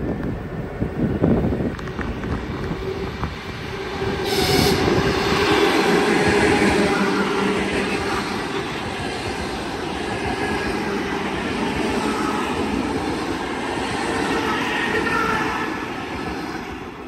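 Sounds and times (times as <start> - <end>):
electric train passing on rails: 0.0 - 17.0.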